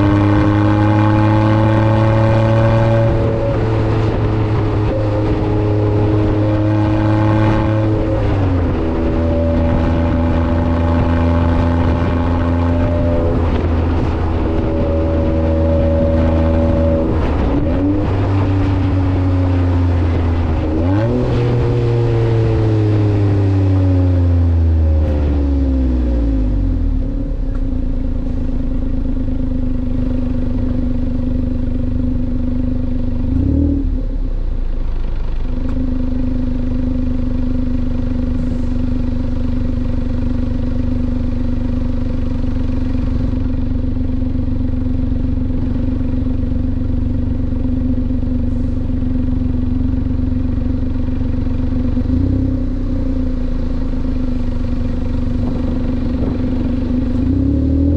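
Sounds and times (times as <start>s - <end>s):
small engine idling and revving: 0.0s - 57.9s.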